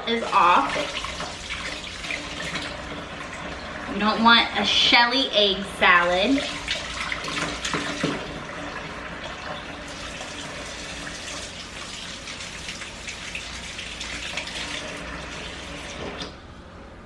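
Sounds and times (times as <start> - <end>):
kitchen tap running: 0.0 - 16.4.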